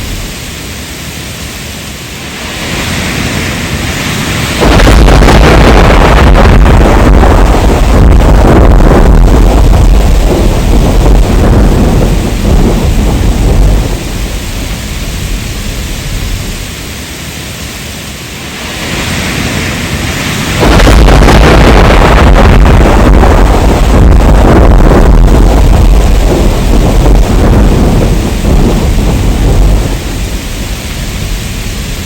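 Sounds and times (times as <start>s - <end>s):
heavy rain: 0.0s - 32.0s
deep rolling thunder: 2.4s - 16.8s, 18.5s - 32.0s.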